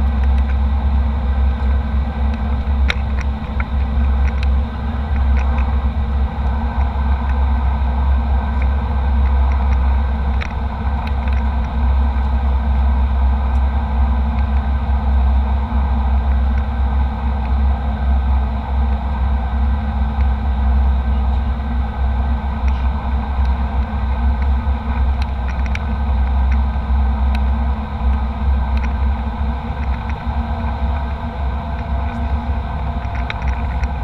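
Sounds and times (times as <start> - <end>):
airliner cabin engine and airflow noise: 0.0 - 34.0.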